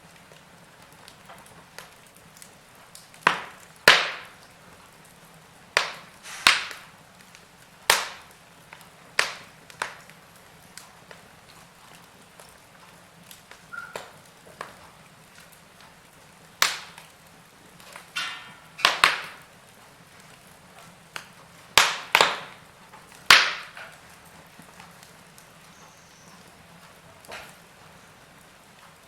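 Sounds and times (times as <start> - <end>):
faint steady hiss: 0.0 - 29.0
wood fire popping and snapping: 0.0 - 29.0.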